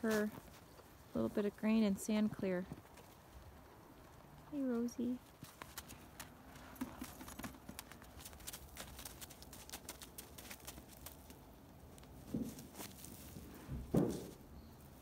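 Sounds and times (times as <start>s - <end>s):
hooves crunching in snow: 0.0s - 15.0s.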